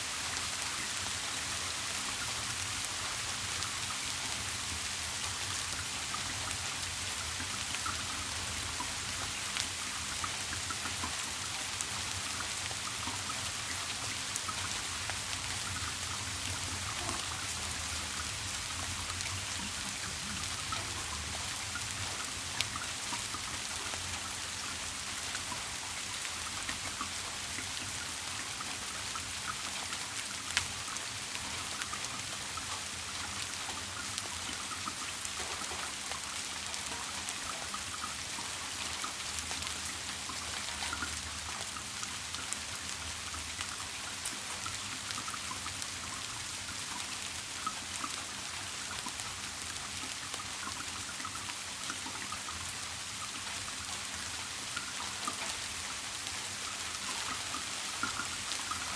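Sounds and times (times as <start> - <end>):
raindrop: 0.0 - 58.9
steady rain: 0.0 - 58.9.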